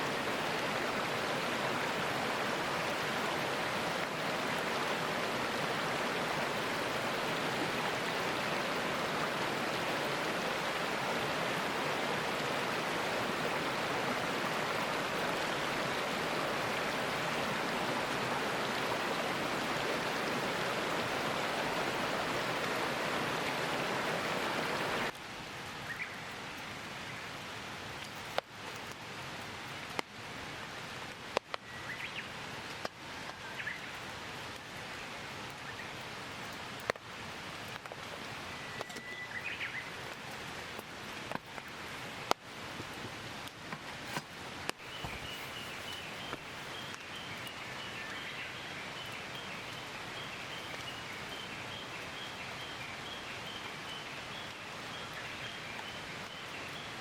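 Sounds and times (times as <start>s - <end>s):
light rain hissing: 0.0s - 57.0s
rush of water: 0.0s - 57.0s.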